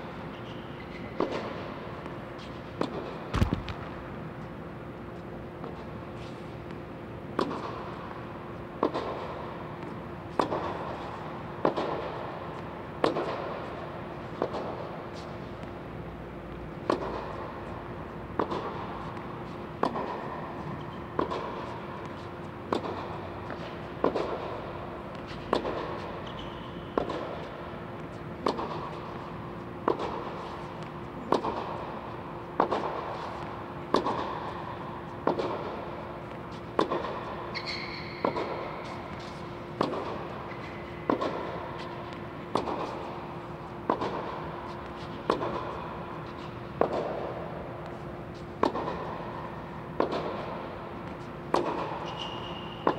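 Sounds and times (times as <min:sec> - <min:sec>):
steady low hum: 0:00.0 - 0:52.9
racket hitting tennis balls: 0:00.2 - 0:52.9.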